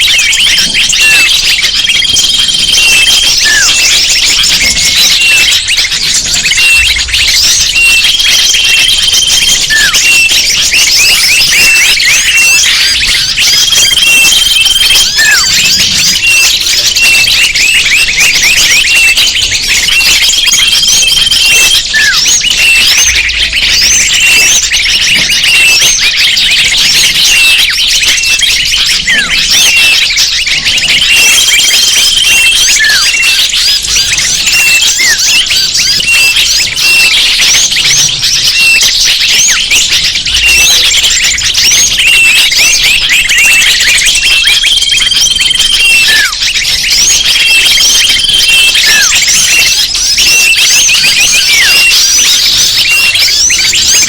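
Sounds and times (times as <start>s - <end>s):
flock of small birds chirping: 0.0s - 54.0s
high bird trill: 0.0s - 54.0s.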